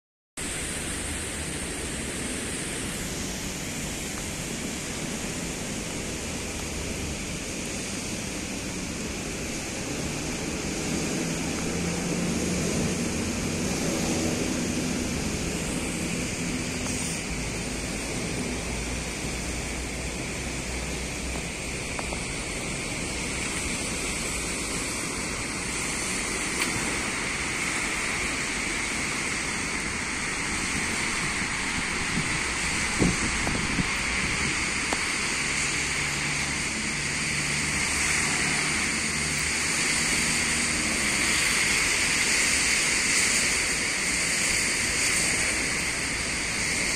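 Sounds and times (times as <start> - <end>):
steady rain falling: 0.4 - 46.9.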